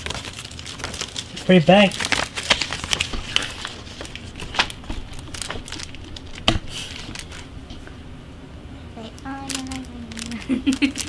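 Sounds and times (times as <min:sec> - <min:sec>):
cardboard insert crinkling: 0:00.0 - 0:07.5, 0:09.5 - 0:11.0.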